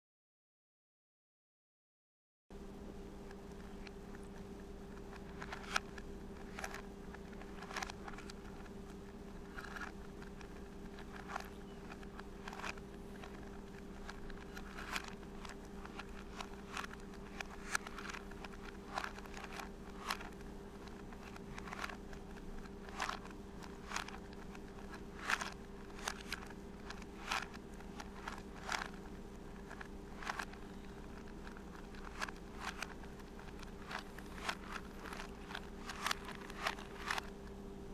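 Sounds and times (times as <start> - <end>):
steady low hum: 2.5 - 37.9
puzzle cube plastic clicks: 3.4 - 37.6.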